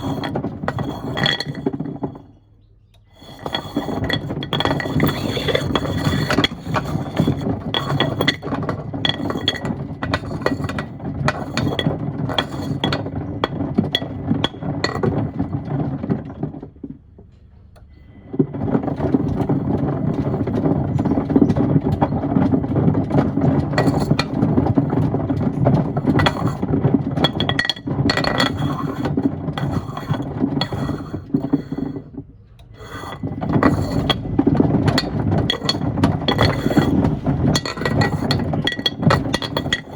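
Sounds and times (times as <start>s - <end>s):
stones and wood clattering in drum: 0.0s - 17.4s, 18.0s - 39.9s.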